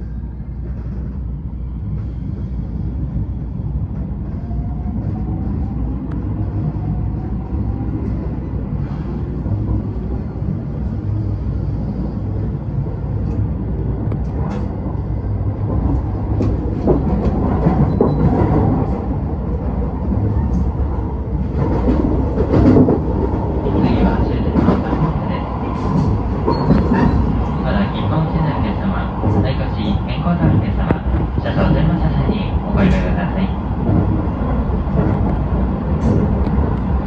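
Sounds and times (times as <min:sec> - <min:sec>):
train rumbling inside carriage: 0:00.0 - 0:37.0.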